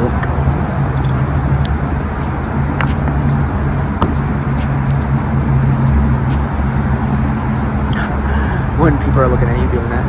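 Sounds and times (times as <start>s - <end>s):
low rumble of road traffic: 0.0s - 10.0s
vehicle engine humming: 0.0s - 10.0s.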